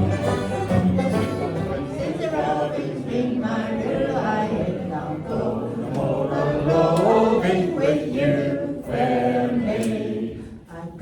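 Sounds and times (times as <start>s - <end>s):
group singing in chorus: 0.0s - 11.0s.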